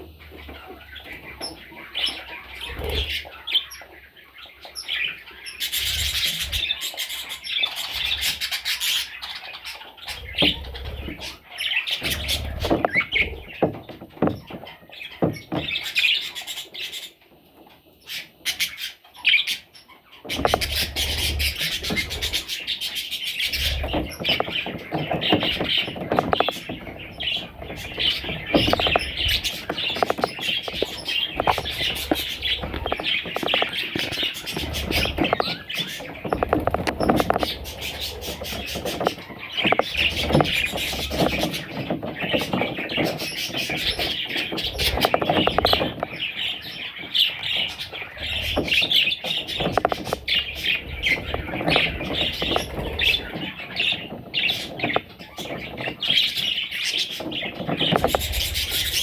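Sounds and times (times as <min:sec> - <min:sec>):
bird chicks chirping: 0:00.0 - 0:59.0.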